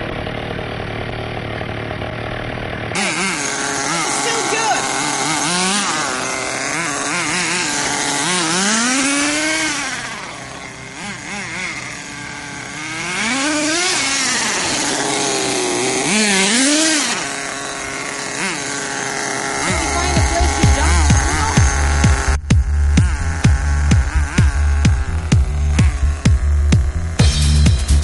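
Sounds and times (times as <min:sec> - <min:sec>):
small engine revving: 0:00.0 - 0:28.0.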